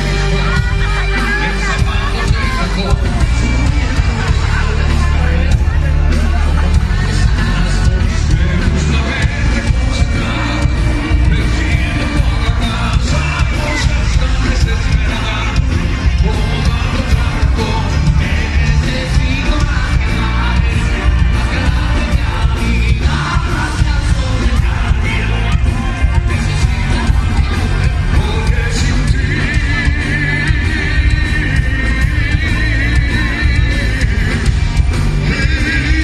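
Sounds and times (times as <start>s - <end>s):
band playing loud music: 0.0s - 36.0s
crowd yelling: 0.0s - 36.0s
singing: 0.0s - 36.0s.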